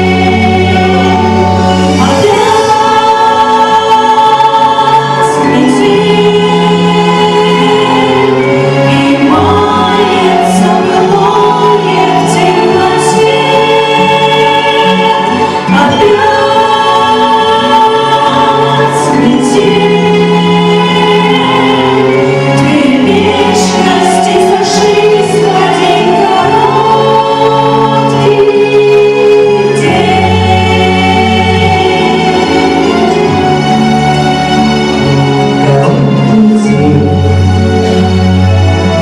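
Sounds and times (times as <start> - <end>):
choir singing: 0.0 - 39.0
musical accompaniment: 0.0 - 39.0.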